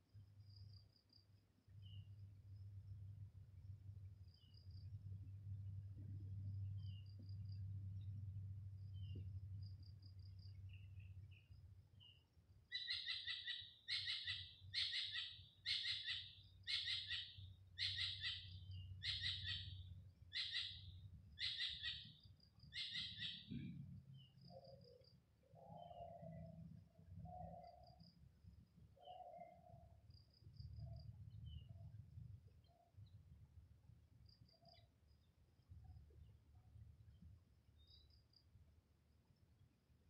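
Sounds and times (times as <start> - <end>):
birds chirping faintly: 0.2 - 40.0.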